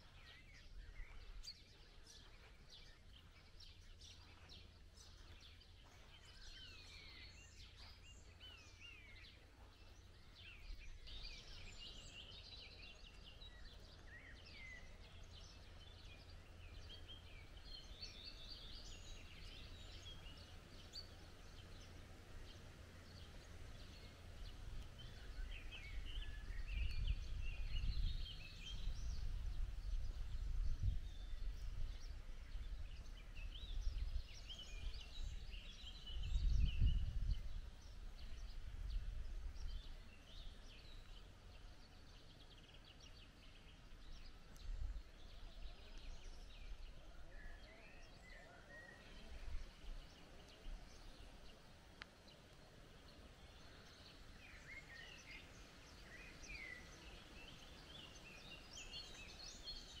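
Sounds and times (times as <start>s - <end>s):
small birds singing and chirping: 0.0s - 60.0s.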